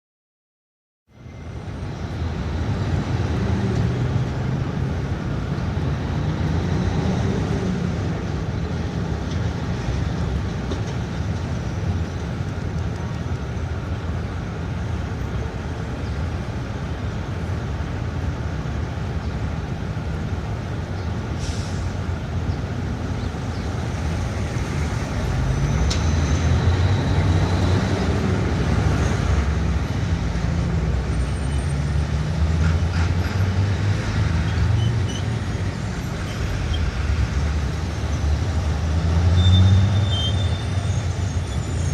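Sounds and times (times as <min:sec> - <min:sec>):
traffic rumbling past: 0:01.1 - 0:41.9.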